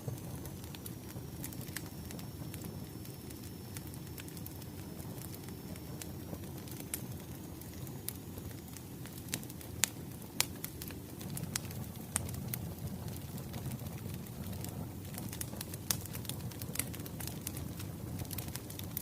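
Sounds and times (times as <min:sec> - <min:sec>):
fire pops and snaps: 0:00.0 - 0:19.0
wood fire rumbling: 0:00.0 - 0:19.0.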